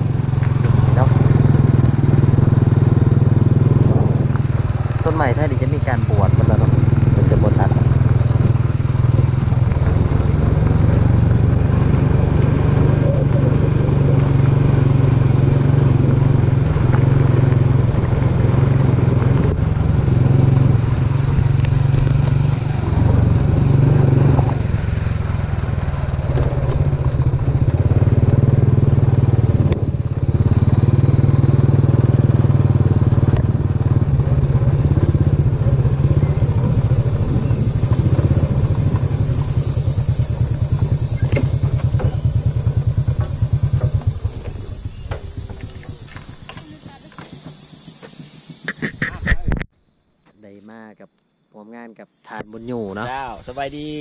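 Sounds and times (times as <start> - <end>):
motorcycle engine running: 0.0 - 49.7, 52.8 - 54.0.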